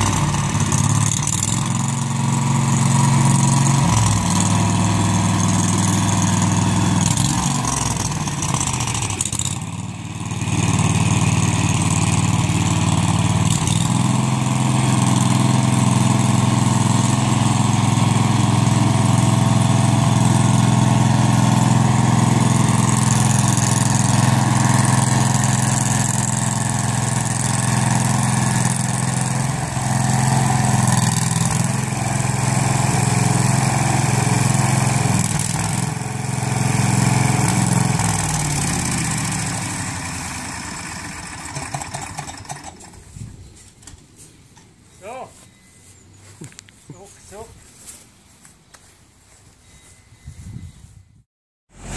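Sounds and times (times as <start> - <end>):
tractor engine running: 0.0 - 45.1.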